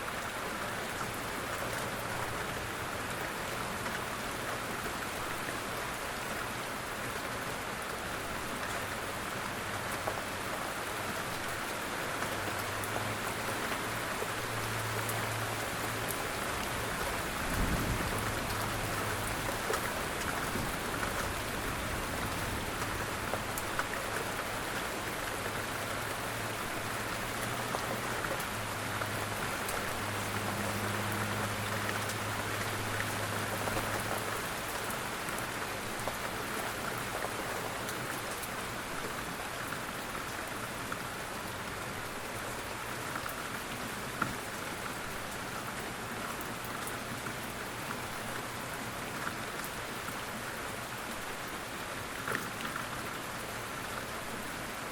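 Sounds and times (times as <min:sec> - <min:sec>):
steady rain on a surface: 0:00.0 - 0:54.9.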